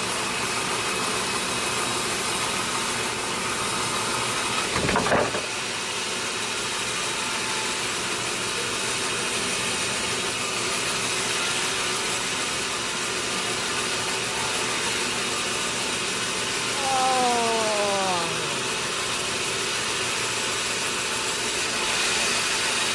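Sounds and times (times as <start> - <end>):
sawmill machinery running: 0.0 - 16.7, 17.7 - 22.9.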